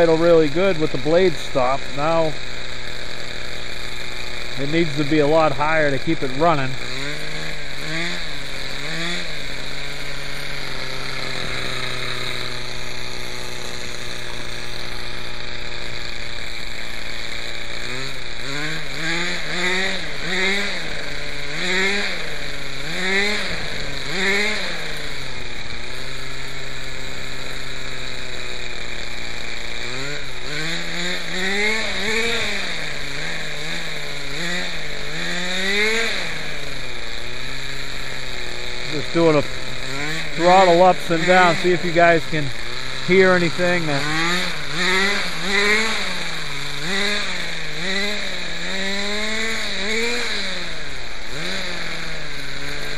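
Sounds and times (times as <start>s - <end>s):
model engine revving: 0.0s - 52.9s.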